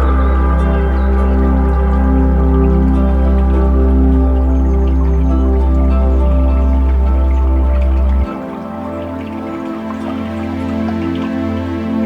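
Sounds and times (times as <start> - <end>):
calm new-age music: 0.0 - 12.0.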